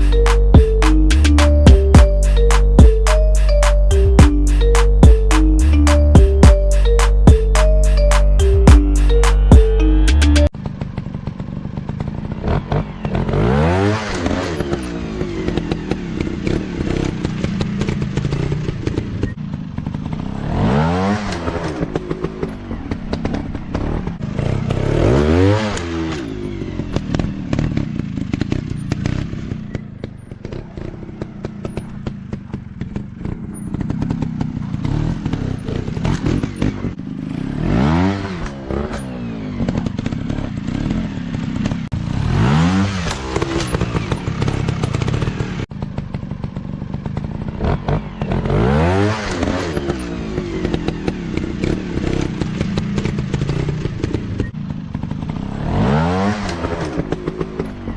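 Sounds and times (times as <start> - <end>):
dirt bike engines revving: 0.0 - 57.9.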